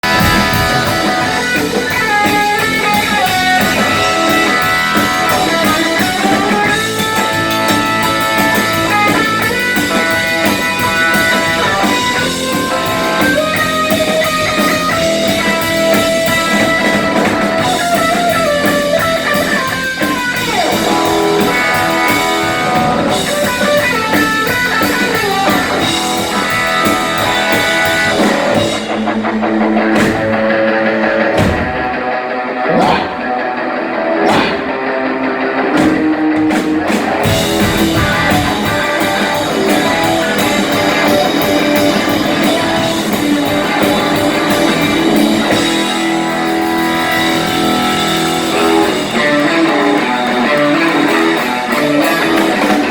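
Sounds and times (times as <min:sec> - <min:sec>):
blues-rock band playing: 0:00.0 - 0:52.9
electric guitar lead: 0:00.0 - 0:52.9.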